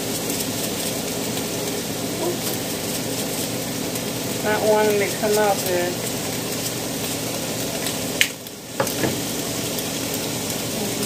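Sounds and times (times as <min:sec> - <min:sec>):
range hood fan hum: 0:00.0 - 0:11.0
steak sizzling in frying pan: 0:00.0 - 0:11.0.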